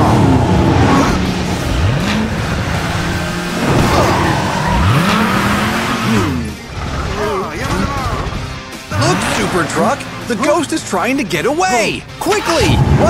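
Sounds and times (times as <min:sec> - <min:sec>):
cartoon race car engine revving: 0:00.0 - 0:10.7
background music: 0:00.0 - 0:13.0
tires screeching: 0:00.0 - 0:13.0.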